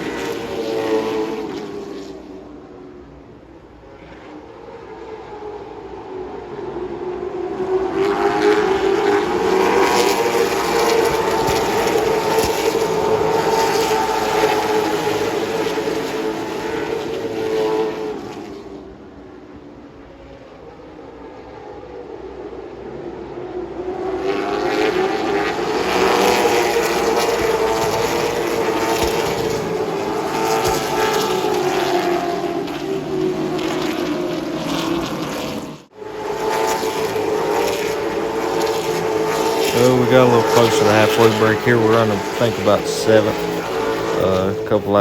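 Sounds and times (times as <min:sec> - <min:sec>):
race car engine: 0:00.0 - 0:45.0.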